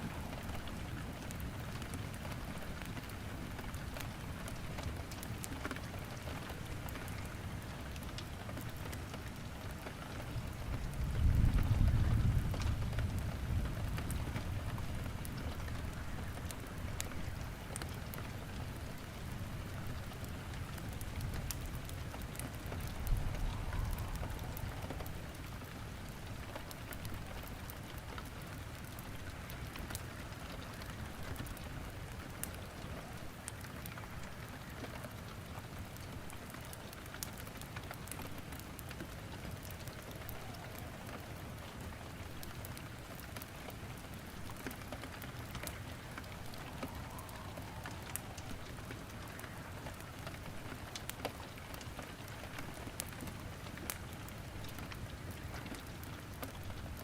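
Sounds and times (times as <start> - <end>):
steady rain hiss: 0.0 - 57.0
wood fire crackling: 0.0 - 57.0.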